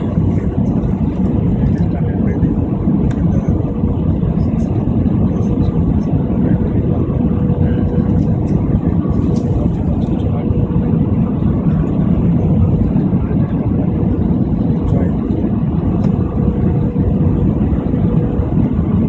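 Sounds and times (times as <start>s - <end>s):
airliner engine and airflow rumble: 0.0s - 19.0s.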